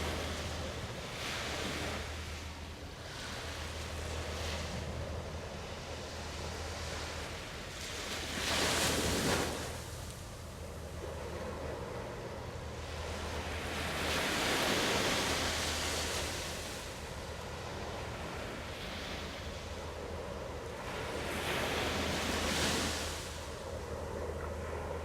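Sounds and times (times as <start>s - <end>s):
steady low hum: 0.0s - 25.0s
waves washing in: 0.0s - 25.0s.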